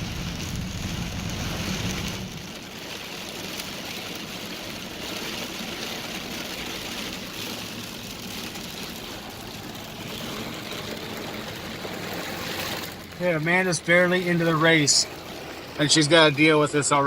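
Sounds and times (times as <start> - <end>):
car low rumble: 0.0 - 17.0
heavy rain beating on a car: 0.0 - 17.0.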